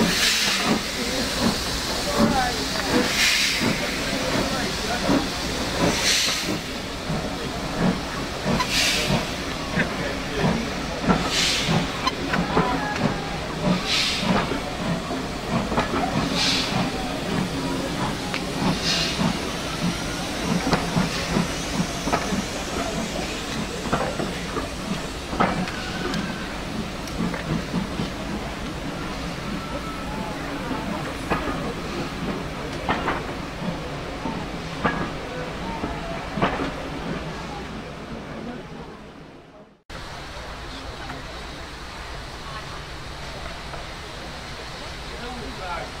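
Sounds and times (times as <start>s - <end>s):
steam locomotive hissing: 0.0s - 39.2s, 39.9s - 46.0s
rush of steam: 0.0s - 39.3s, 39.9s - 46.0s
train coaches rumbling: 0.0s - 46.0s.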